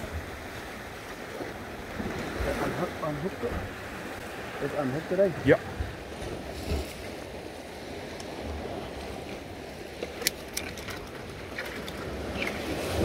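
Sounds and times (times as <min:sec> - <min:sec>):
sea washing against rocky shore: 0:00.0 - 0:13.0.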